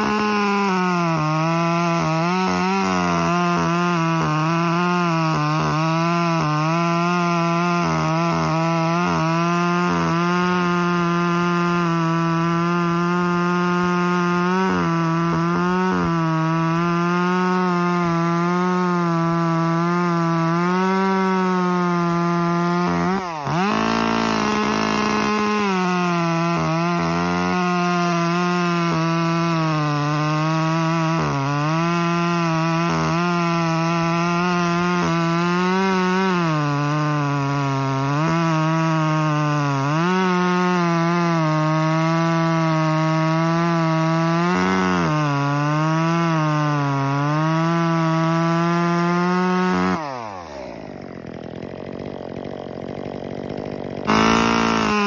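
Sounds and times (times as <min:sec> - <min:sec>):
chainsaw cutting wood at full throttle: 0:00.0 - 0:55.0.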